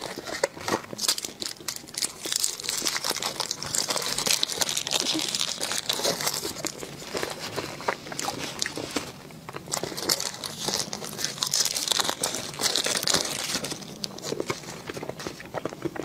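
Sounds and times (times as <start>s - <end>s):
mouth sounds of eating: 0.0s - 16.0s
plastic wrapper crinkling: 0.0s - 16.0s.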